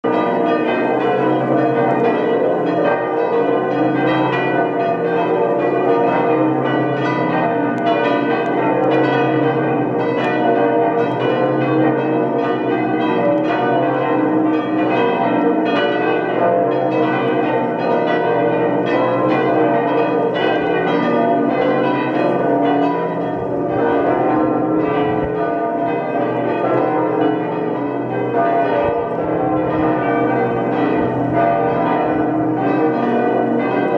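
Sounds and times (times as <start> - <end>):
church bells pealing: 0.0 - 33.9.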